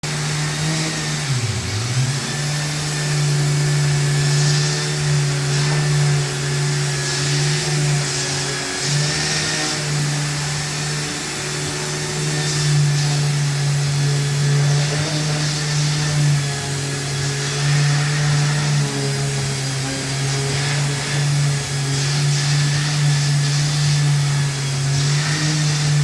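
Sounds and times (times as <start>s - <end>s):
electric orbital sander running: 0.0s - 26.0s.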